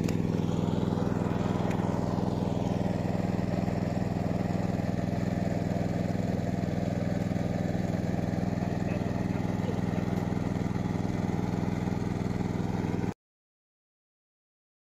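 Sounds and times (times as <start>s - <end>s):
small engine running steadily: 0.0s - 13.2s.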